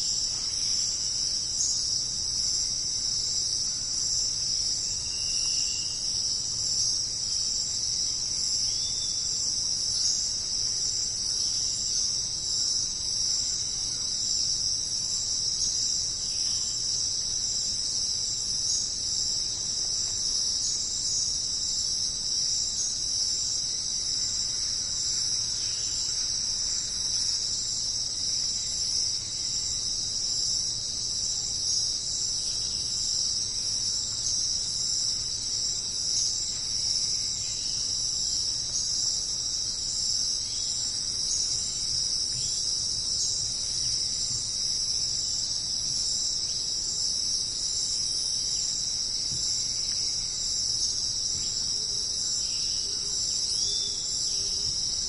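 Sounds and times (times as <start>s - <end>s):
jungle insects shrilling: 0.0s - 19.6s, 20.3s - 55.0s.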